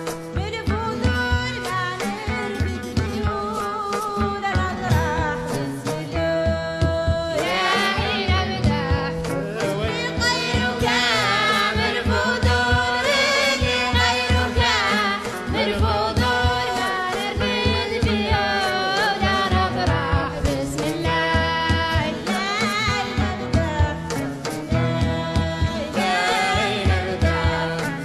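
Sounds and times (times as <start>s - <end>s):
voices singing: 4.7s - 24.1s, 24.7s - 28.0s.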